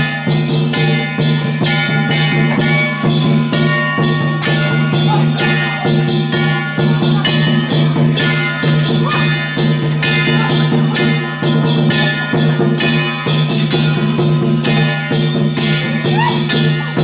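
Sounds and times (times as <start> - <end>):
clashing percussion: 0.0 - 17.0.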